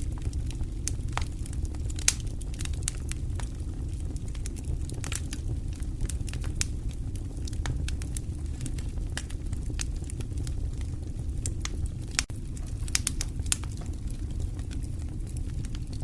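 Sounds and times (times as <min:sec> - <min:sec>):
light rain pattering: 0:00.0 - 0:16.0
low rumble: 0:00.0 - 0:16.0
wood fire crackling: 0:00.0 - 0:16.0.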